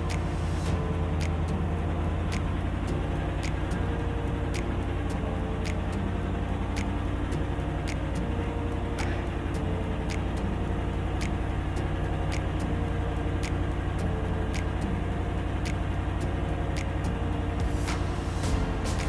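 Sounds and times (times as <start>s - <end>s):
diesel boat engine droning: 0.0s - 19.0s
light ticking: 0.0s - 19.0s.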